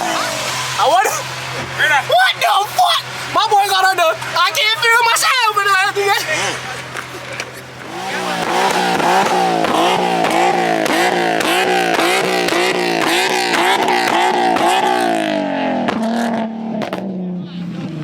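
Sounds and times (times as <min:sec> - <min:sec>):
exhaust pops and crackles: 0:00.0 - 0:17.2
car engine idling: 0:00.0 - 0:18.0
car engine revving: 0:00.0 - 0:18.0.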